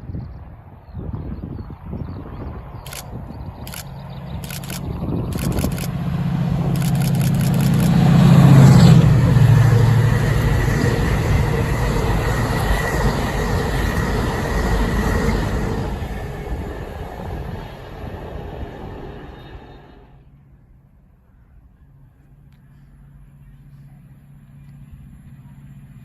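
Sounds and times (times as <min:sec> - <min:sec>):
diesel locomotive passing: 0:00.0 - 0:26.0.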